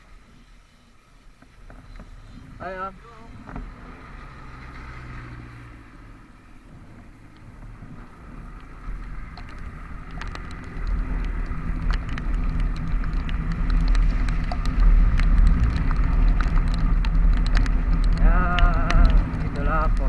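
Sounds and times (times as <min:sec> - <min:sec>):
vehicle engine and road rumble: 0:00.0 - 0:20.0
raindrops ticking: 0:01.4 - 0:20.0.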